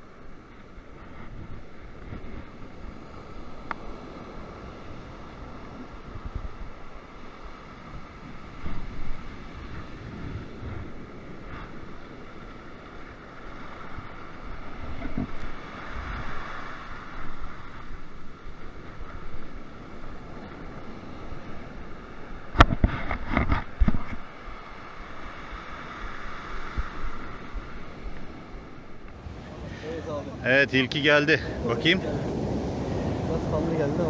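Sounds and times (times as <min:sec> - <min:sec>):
surf washing over beach: 0:00.0 - 0:34.0
wind buffeting microphone: 0:00.0 - 0:34.0.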